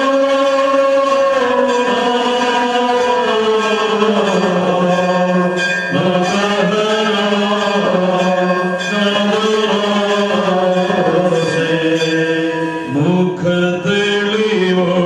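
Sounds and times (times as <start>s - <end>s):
voices singing slow chant: 0.0s - 15.0s.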